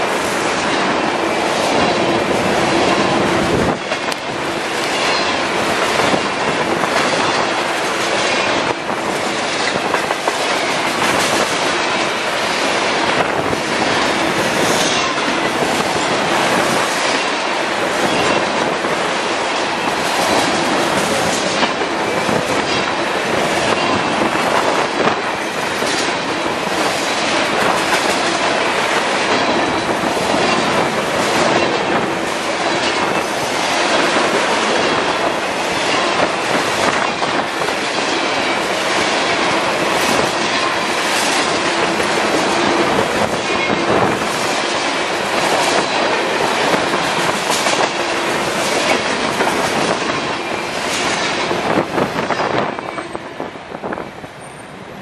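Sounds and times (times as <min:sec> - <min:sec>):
clickety-clack of wheels: 0:00.0 - 0:55.0
train wheels rumbling on rail: 0:00.0 - 0:55.0.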